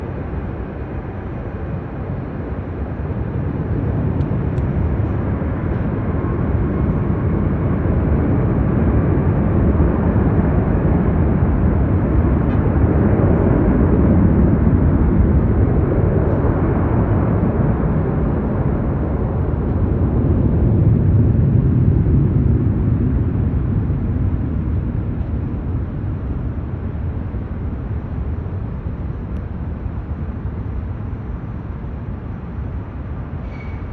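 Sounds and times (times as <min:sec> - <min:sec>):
jet airliner engines passing: 0:00.0 - 0:33.9.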